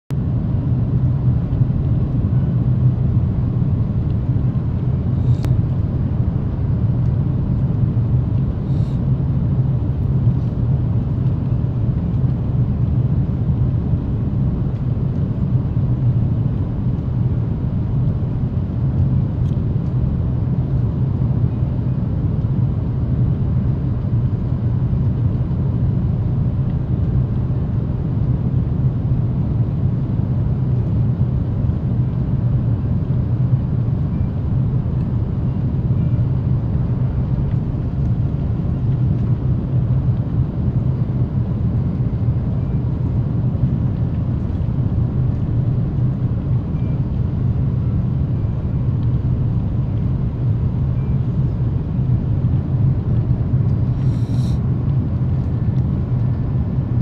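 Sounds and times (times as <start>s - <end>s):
airplane cabin engine rumble: 0.1s - 57.0s.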